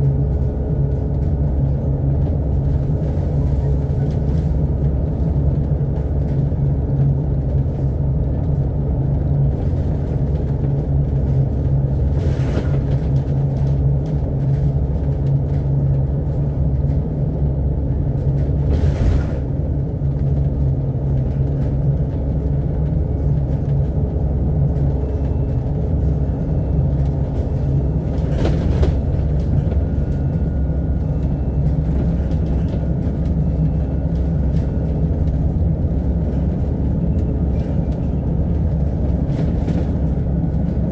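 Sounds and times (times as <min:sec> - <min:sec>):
bus engine drone: 0:00.0 - 0:40.9
road rumble: 0:00.0 - 0:40.9.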